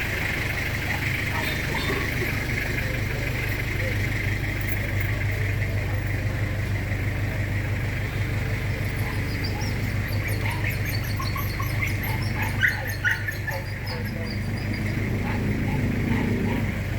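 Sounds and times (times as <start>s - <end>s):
birds chirping: 0.0s - 16.9s
diesel engine idling: 0.0s - 16.9s.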